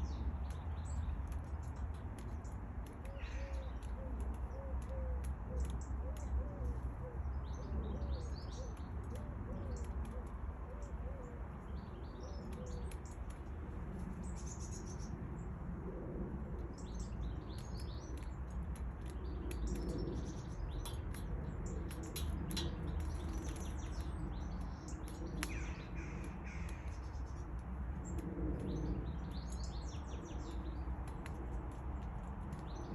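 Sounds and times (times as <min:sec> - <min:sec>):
small birds chirping: 0:00.0 - 0:32.9
steady low rumble: 0:00.0 - 0:32.9.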